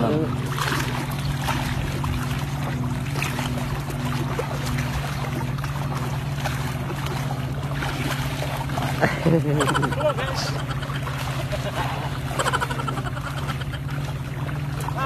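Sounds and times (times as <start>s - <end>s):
low pulsing drone: 0.0s - 15.0s
seawater sloshing around legs: 0.0s - 15.0s.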